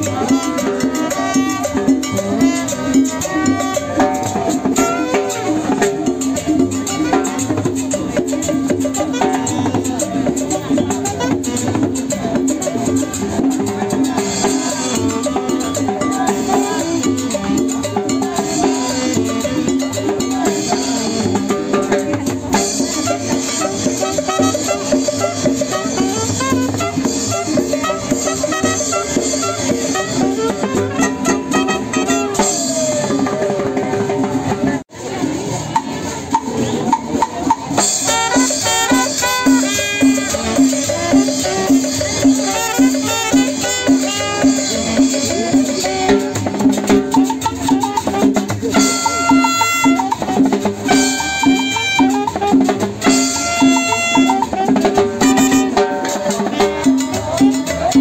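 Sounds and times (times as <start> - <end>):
saxophone: 0.0 - 33.4, 37.8 - 58.0
trumpet: 0.0 - 34.3, 37.4 - 58.0
drums: 0.0 - 58.0
upright bass: 0.0 - 58.0.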